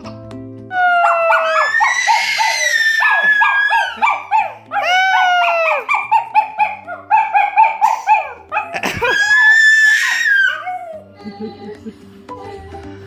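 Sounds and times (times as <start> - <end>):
dog howling: 0.7 - 11.2.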